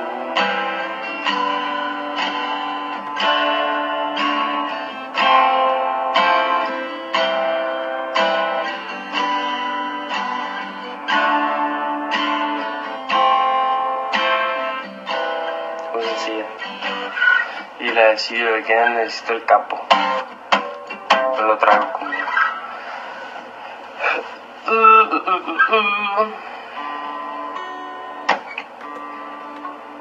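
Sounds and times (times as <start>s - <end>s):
acoustic guitar chords: 0.0s - 30.0s.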